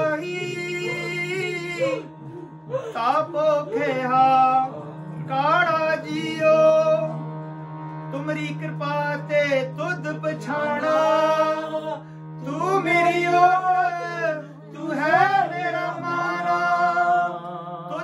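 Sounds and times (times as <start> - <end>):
man singing: 0.0 - 7.3, 8.1 - 18.0
harmonium drone: 0.0 - 18.0.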